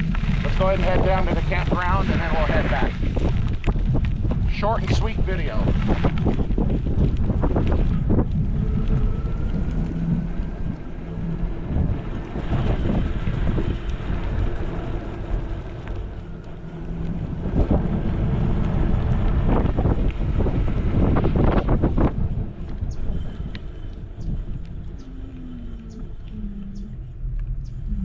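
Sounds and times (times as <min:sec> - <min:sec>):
electric scooter whine: 0:00.0 - 0:28.0
wind buffeting microphone: 0:00.0 - 0:28.0.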